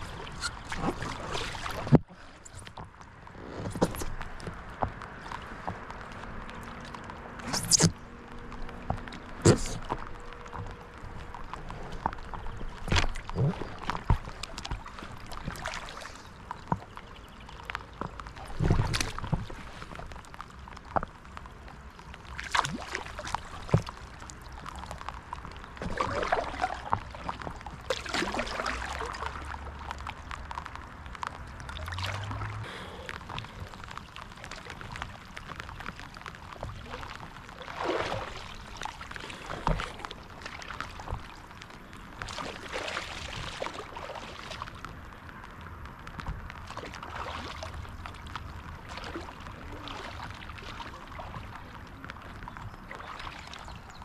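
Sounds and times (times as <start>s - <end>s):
paddle splashing in water: 0.0s - 45.0s, 46.1s - 54.0s
water dripping: 0.0s - 54.0s.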